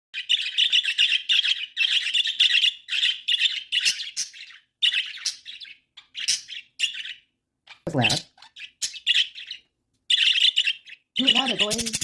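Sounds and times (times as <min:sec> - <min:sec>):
budgies chattering and squawking: 0:00.2 - 0:12.0.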